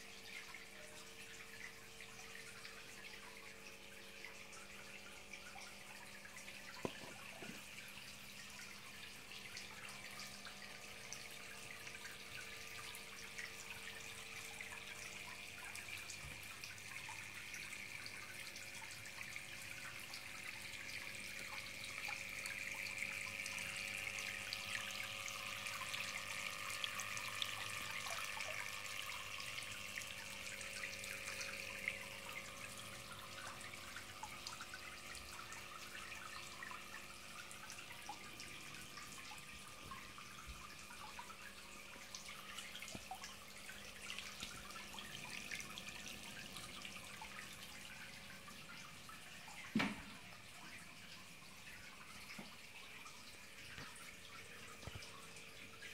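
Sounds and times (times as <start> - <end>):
water drip ticks: 0.0 - 55.9.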